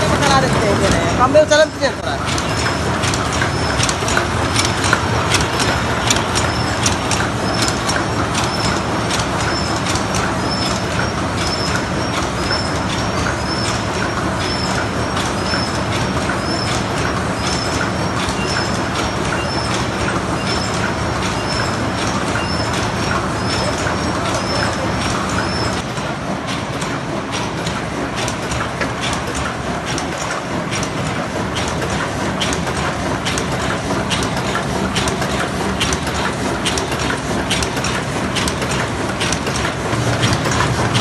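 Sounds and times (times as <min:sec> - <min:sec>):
machine clattering with rapid ticks: 0:00.0 - 0:41.0.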